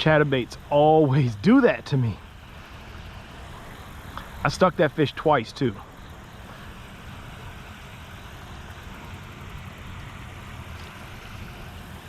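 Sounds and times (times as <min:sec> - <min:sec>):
faint hiss: 0:00.0 - 0:12.0
low outdoor rumble: 0:00.0 - 0:12.0.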